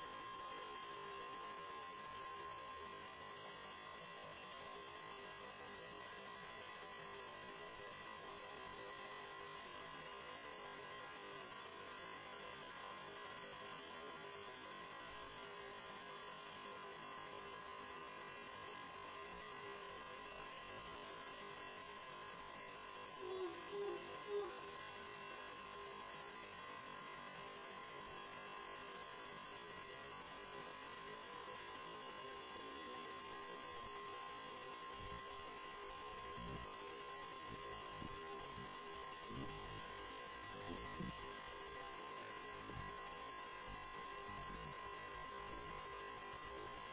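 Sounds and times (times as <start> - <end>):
electrical hum with high whine: 0.0 - 46.9.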